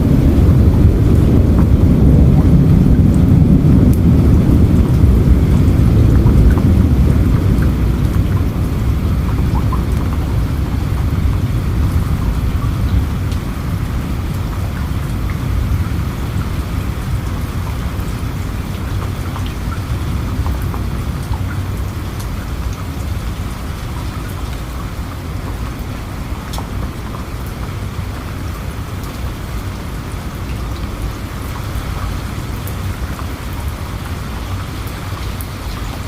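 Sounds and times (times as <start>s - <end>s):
low rumble of thunder: 0.0s - 36.0s
steady rain falling: 0.0s - 36.0s.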